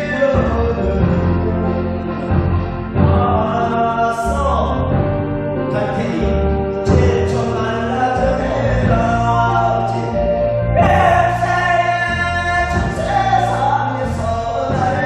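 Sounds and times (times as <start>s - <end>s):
person singing: 0.0s - 2.4s, 3.0s - 15.0s
instrumental backing track with bass: 0.0s - 15.0s.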